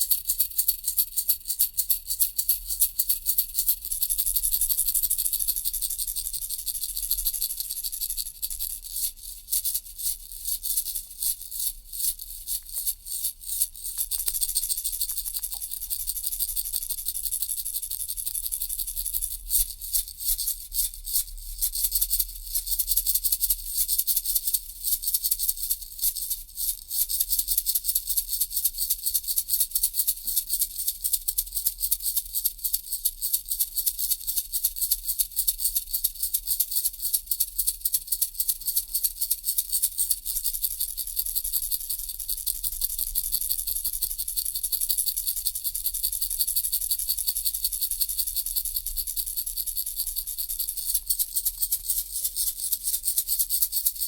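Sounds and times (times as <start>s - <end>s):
baby rattle shaking: 0.0s - 31.7s, 32.7s - 54.0s.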